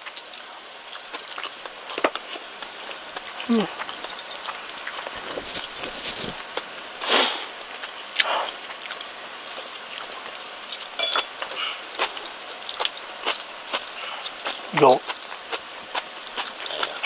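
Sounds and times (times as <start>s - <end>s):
chewing with mouth clicks: 0.0s - 6.7s, 7.8s - 17.0s.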